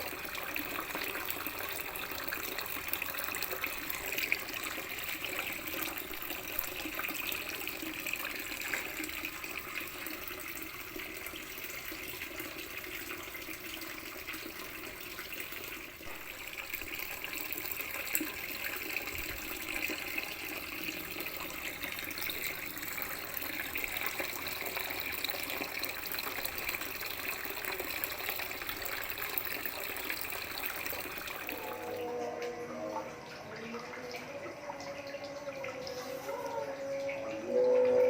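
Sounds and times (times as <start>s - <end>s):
water running from tap: 0.0s - 32.2s.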